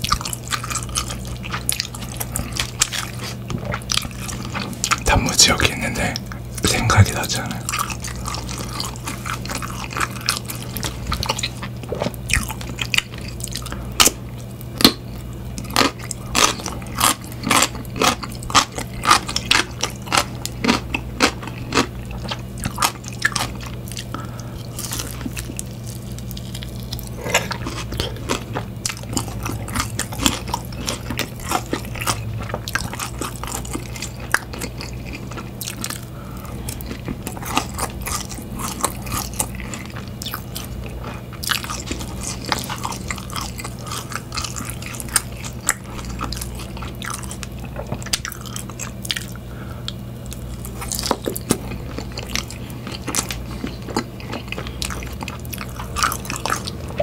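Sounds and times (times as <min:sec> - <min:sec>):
crunchy food biting and chewing: 0:00.0 - 0:57.0.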